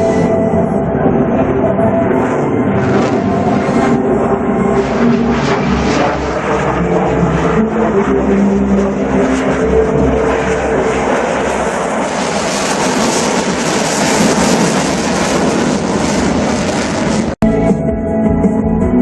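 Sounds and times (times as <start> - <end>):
aircraft engine roar: 0.0 - 17.7.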